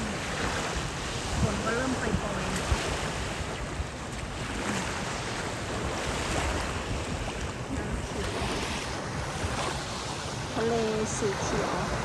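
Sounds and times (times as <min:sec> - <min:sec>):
sea waves washing onto beach: 0:00.0 - 0:12.0
wind buffeting microphone: 0:00.0 - 0:12.0.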